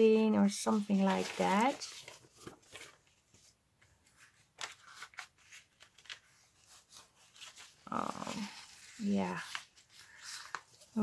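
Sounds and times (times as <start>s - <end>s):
crisp paper sounds: 0.5s - 11.0s
paper rustling: 0.5s - 11.0s.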